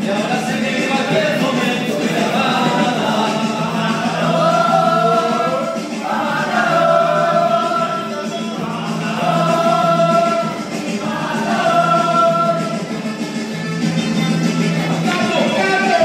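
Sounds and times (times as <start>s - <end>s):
men singing karaoke: 0.0s - 13.6s, 14.7s - 16.0s
backing track through speaker: 0.0s - 16.0s.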